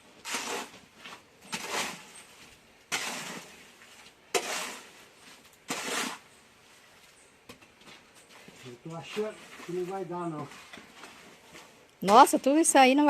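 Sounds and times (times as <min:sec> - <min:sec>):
shovel scraping concrete: 0:00.0 - 0:06.9, 0:08.4 - 0:12.7.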